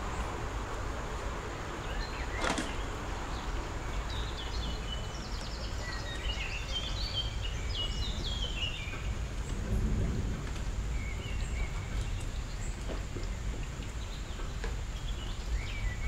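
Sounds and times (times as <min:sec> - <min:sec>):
low background noise: 0:00.0 - 0:16.0.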